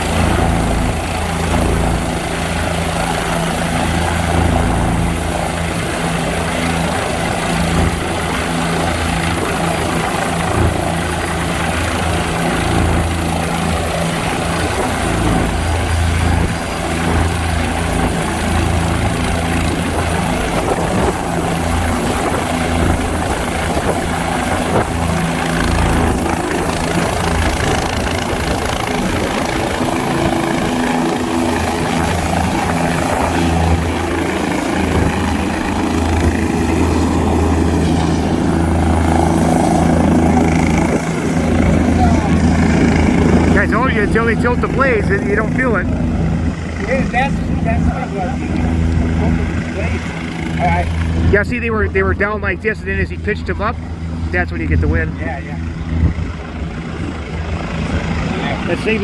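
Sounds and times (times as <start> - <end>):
helicopter rotor beat: 0.0 - 59.0
helicopter turbine whine: 0.0 - 59.0.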